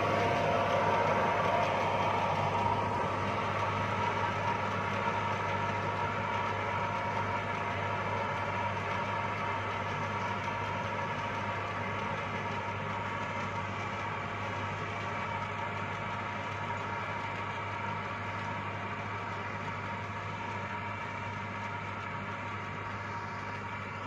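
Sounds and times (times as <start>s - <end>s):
blower whine: 0.0s - 24.0s
tractor engine running: 0.0s - 24.0s.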